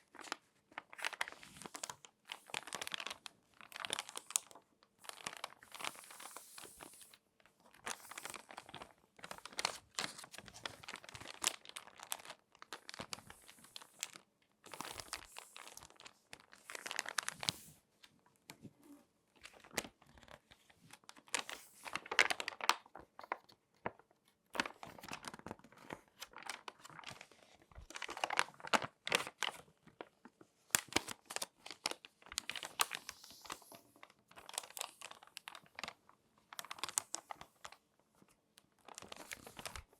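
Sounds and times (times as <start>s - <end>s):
magazine pages crinkling: 0.0s - 17.8s, 19.4s - 39.9s.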